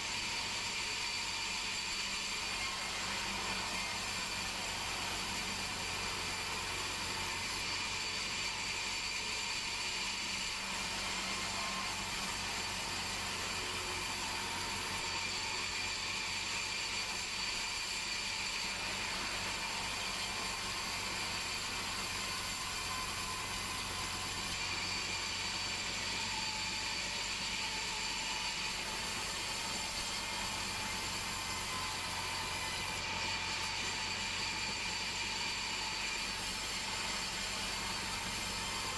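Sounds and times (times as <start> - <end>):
band saw blade cutting log: 0.0 - 38.9.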